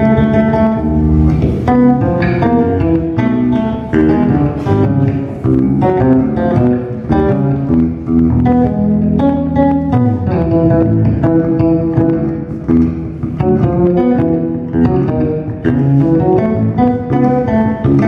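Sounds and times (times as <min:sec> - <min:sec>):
electric bass guitars playing: 0:00.0 - 0:18.0.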